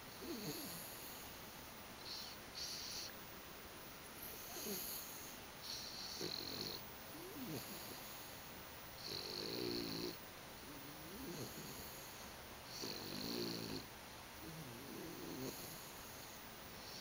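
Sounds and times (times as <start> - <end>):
soft breaths: 0.0 - 17.0
pet snoring: 0.1 - 1.3, 2.0 - 3.1, 4.2 - 8.4, 9.0 - 17.0.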